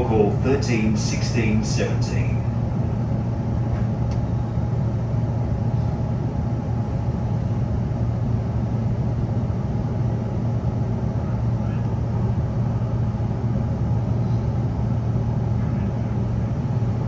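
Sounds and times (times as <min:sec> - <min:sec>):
electric train interior hum: 0:00.0 - 0:17.0.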